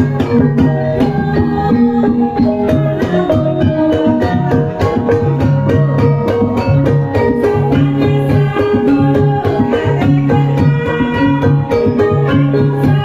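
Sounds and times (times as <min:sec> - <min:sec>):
women singing: 0:00.0 - 0:04.9, 0:07.2 - 0:13.0
kettle gongs and metallophones: 0:00.0 - 0:13.0.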